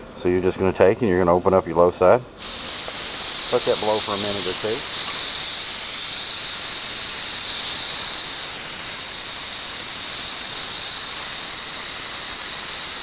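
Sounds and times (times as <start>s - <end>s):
gas hissing from manifold: 2.3s - 13.0s.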